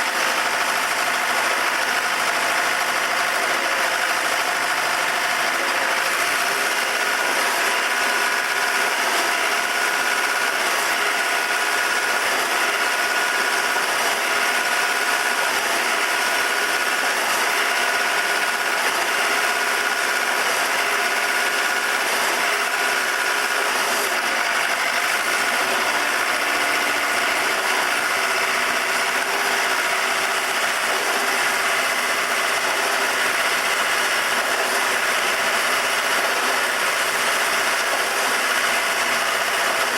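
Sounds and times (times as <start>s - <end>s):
concrete pump engine running: 0.0s - 39.9s.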